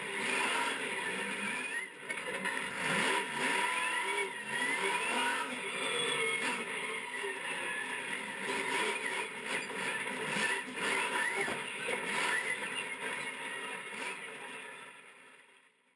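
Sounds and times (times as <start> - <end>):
monster truck engine running: 0.0 - 15.9.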